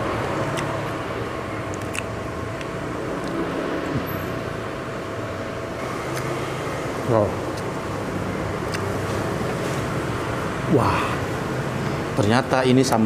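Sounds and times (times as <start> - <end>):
room hum: 0.0 - 13.0
traffic: 0.0 - 13.0.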